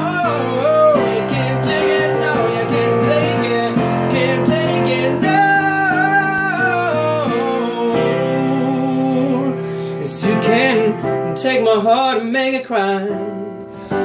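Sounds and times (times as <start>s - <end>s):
person singing wordless line: 0.0s - 14.0s.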